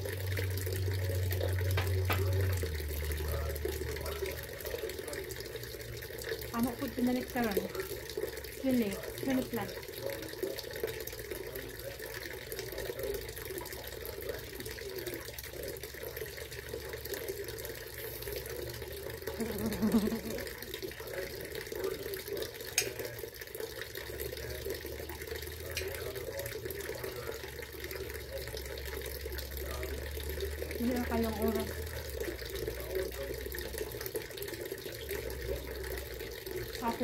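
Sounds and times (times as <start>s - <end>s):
garden fountain trickling: 0.0s - 37.0s.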